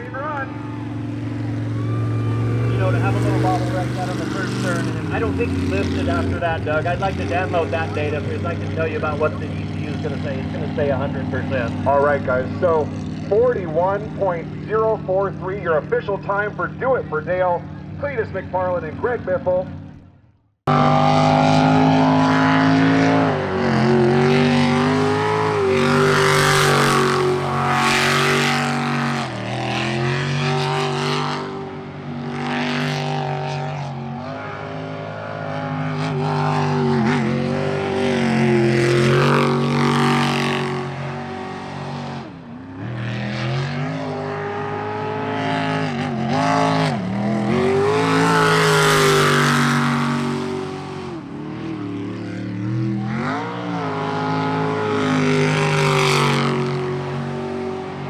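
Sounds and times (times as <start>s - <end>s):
racing boat engine revving: 0.0s - 58.0s.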